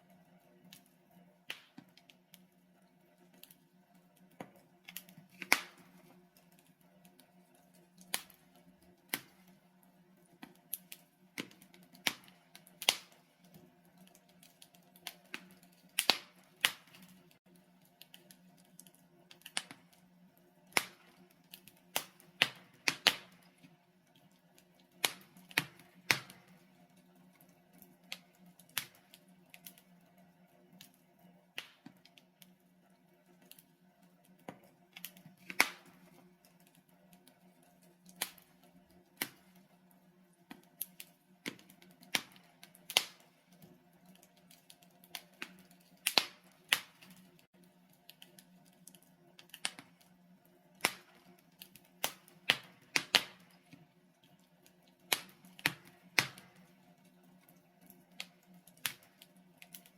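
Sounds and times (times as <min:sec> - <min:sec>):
burning logs crackling and popping: 0:00.1 - 0:59.9.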